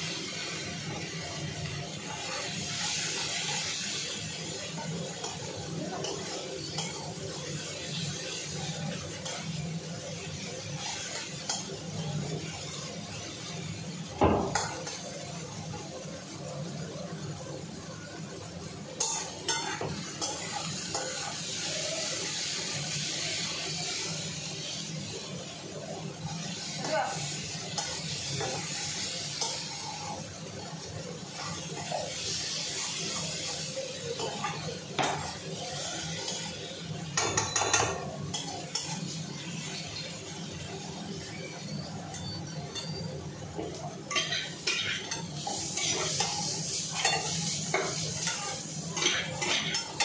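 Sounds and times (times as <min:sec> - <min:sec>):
light frying sizzle: 0:00.0 - 0:50.0.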